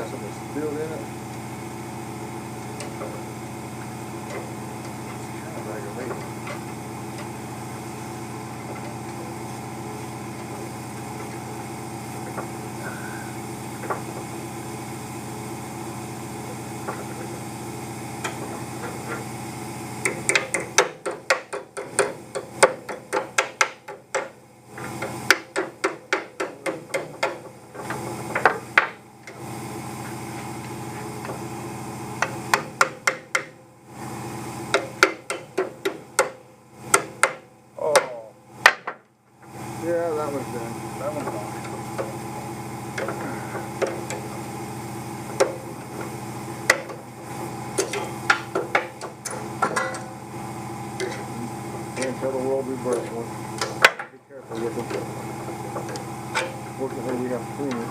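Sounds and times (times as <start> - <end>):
steady hum: 0.0 - 57.9.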